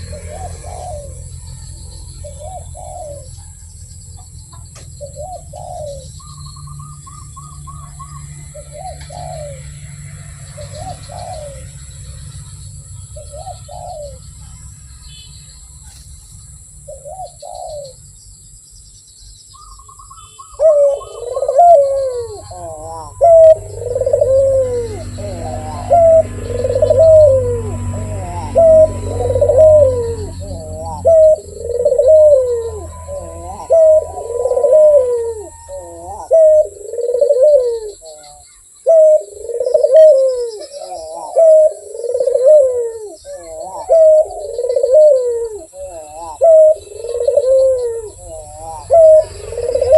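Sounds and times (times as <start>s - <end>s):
dove cooing: 0.0s - 14.7s, 15.8s - 18.0s, 19.6s - 49.9s.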